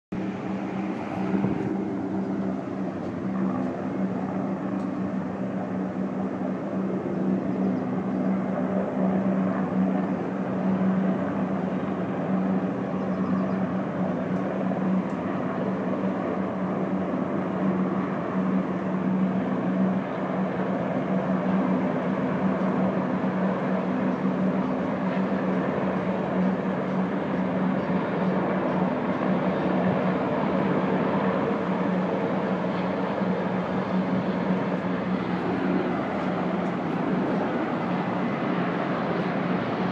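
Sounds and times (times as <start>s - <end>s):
helicopters droning overhead: 0.1s - 39.9s.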